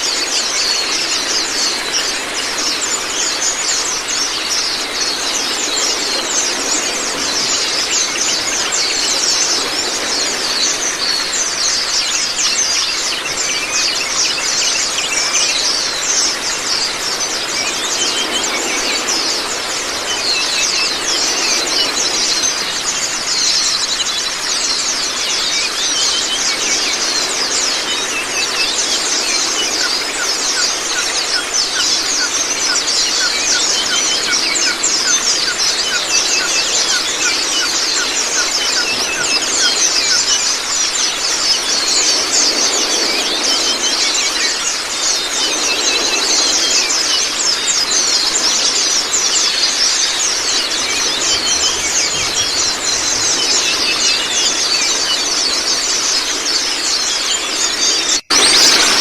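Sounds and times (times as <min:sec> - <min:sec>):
flock of birds chattering: 0:00.0 - 0:59.0
running water: 0:00.0 - 0:59.0.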